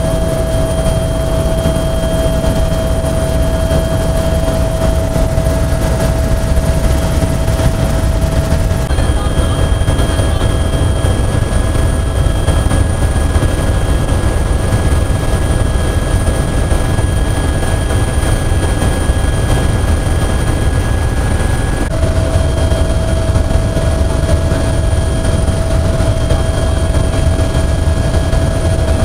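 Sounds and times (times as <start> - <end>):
helicopter rotor rumble: 0.0 - 29.0
high engine whines: 0.0 - 29.0.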